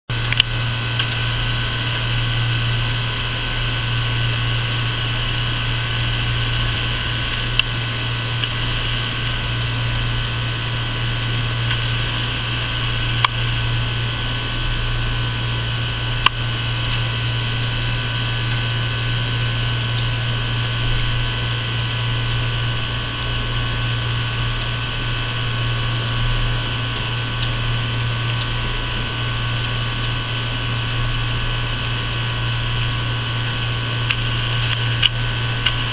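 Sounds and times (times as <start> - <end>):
mechanical hum with low drone: 0.1 - 35.9.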